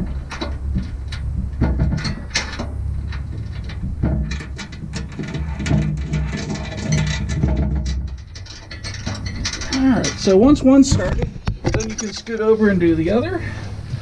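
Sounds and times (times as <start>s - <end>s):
metal knocks: 0.0s - 12.5s.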